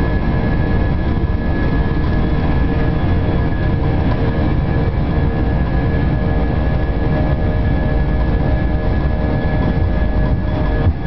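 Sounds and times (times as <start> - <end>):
jet engine hum: 0.0 - 11.0
low rumble of taxiing airplane: 0.0 - 11.0.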